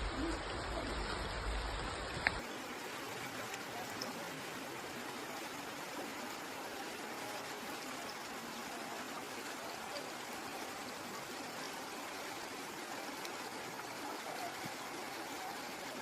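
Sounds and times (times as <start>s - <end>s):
stream water flowing: 0.0s - 16.0s.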